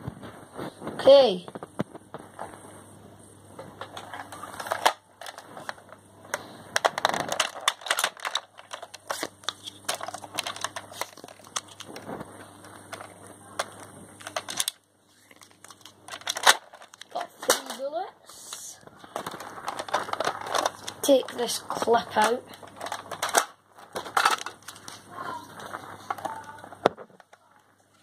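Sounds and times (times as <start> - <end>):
handling clicks and rustling: 3.6 - 17.9, 19.0 - 27.6.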